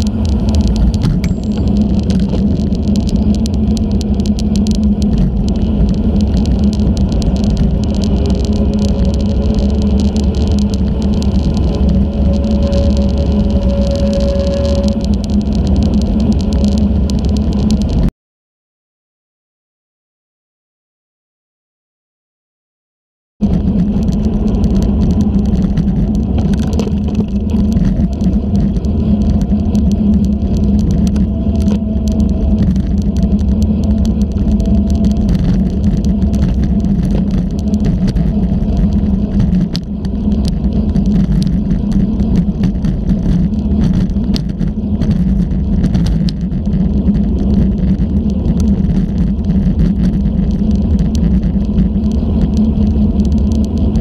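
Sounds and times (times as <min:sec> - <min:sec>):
wind and road rumble: 0:00.0 - 0:18.1, 0:23.4 - 0:54.0.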